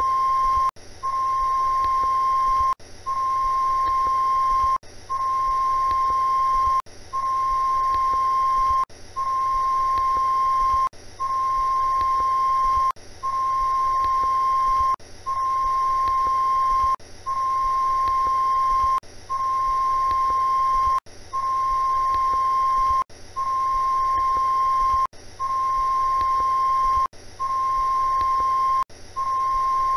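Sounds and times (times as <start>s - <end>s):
high-pitched test tone beep: 0.0s - 29.9s.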